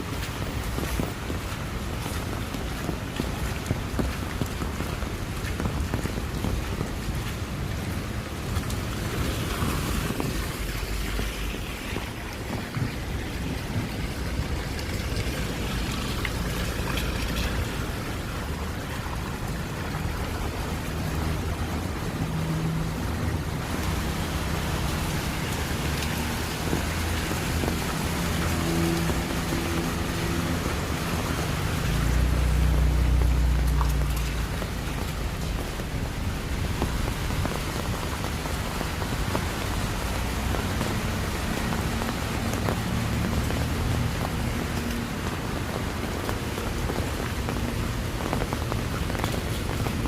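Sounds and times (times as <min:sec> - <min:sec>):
heavy rain: 0:00.0 - 0:50.0
tyres on wet pavement: 0:00.0 - 0:50.0
vehicle engine hum: 0:00.0 - 0:50.0.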